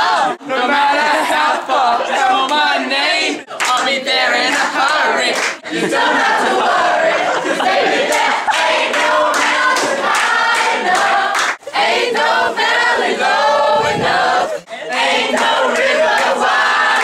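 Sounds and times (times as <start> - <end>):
group of teenagers singing: 0.0 - 17.0.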